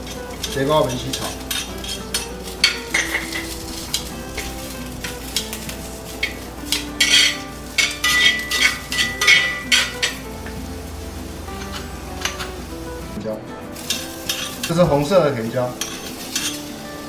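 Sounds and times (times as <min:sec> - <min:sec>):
tongs clicking and scraping pan: 0:00.0 - 0:10.6, 0:11.3 - 0:12.9, 0:13.8 - 0:16.8
vegetables sizzling in a pan: 0:00.0 - 0:17.0.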